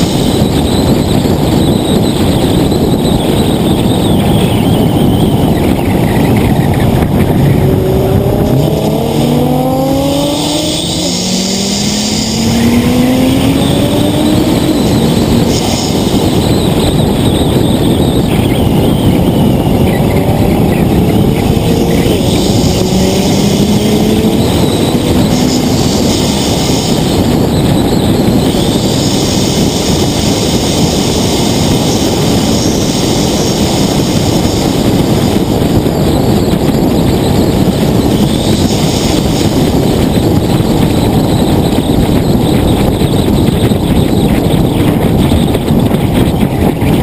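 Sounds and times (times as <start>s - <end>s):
wind and road noise: 0.0s - 47.0s.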